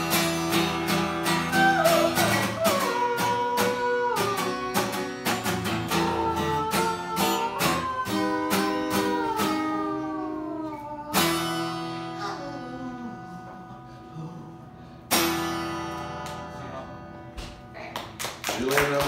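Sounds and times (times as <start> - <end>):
acoustic guitar strumming chords: 0.0 - 10.5, 11.1 - 17.7.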